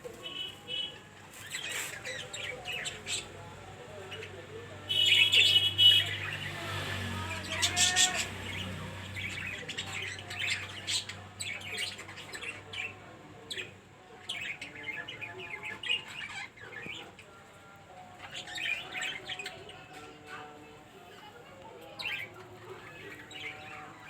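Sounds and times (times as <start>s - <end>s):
budgerigars chirping and chattering: 0.2s - 24.0s.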